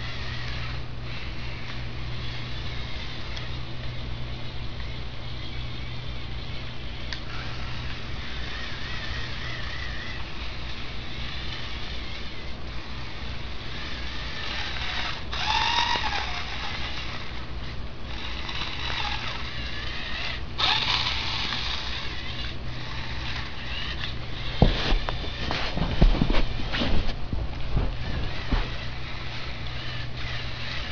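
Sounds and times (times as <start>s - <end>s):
toy motor and gears whining: 0.0s - 27.2s, 27.8s - 30.9s.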